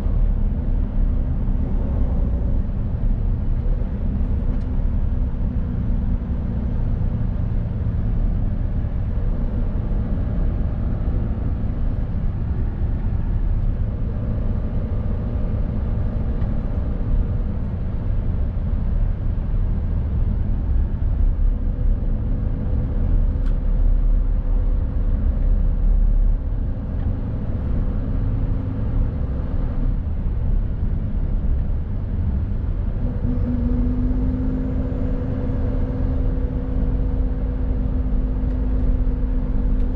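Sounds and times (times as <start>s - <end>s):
road and tyre noise: 0.0s - 39.9s.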